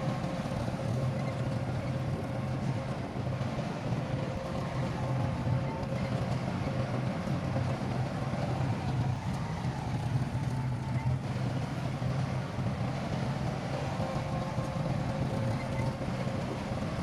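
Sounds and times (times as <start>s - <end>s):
diesel machinery engine drone: 0.0s - 17.0s.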